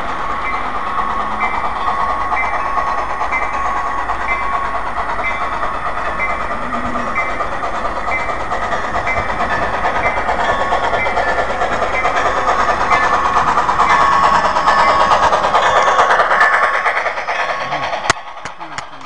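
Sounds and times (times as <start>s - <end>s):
model train rattling: 0.0s - 19.0s.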